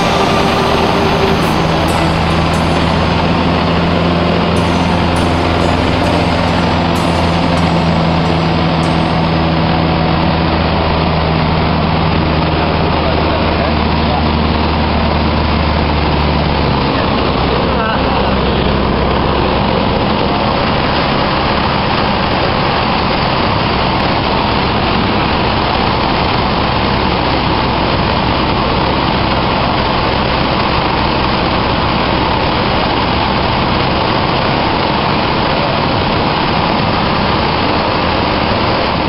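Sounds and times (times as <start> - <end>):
airplane engine droning: 0.0 - 39.0.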